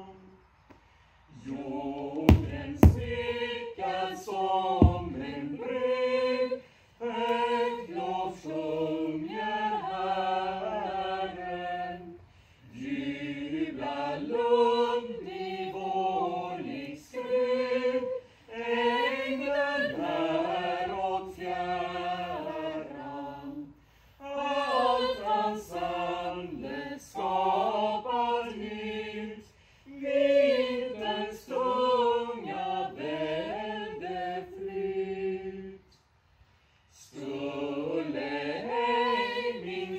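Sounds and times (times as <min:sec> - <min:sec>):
choir singing unaccompanied: 0:00.0 - 0:00.5, 0:01.3 - 0:36.0, 0:36.9 - 0:39.9.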